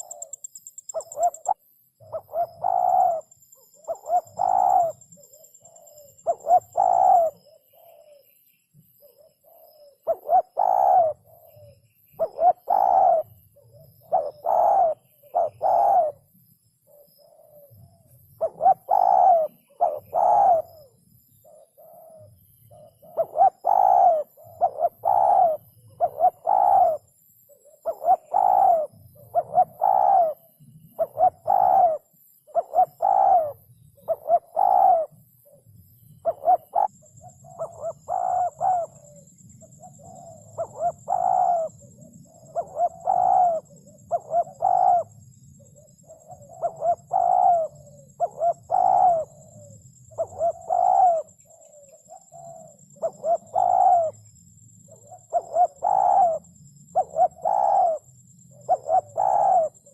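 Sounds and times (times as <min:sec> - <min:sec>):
dove cooing: 0:00.0 - 0:08.4, 0:09.0 - 0:59.9.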